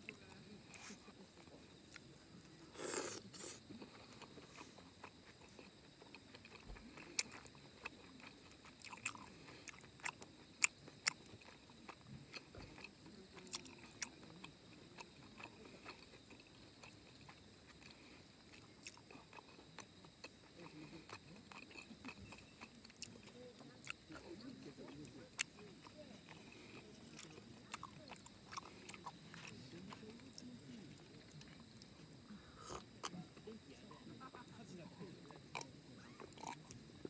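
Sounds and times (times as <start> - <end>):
person chewing: 0.1 - 1.2, 2.7 - 30.6, 31.2 - 33.2, 35.3 - 37.0.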